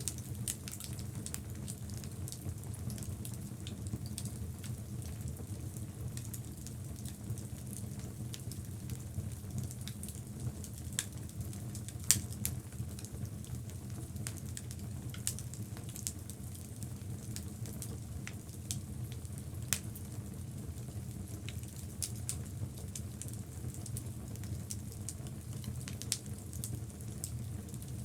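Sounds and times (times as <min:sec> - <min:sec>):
logs burning in fireplace: 0:00.0 - 0:28.0.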